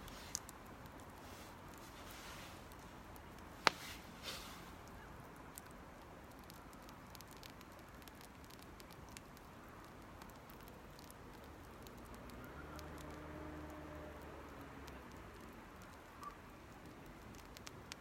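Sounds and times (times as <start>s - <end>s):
campfire crackling: 0.0s - 18.0s
fire popping: 0.0s - 18.0s.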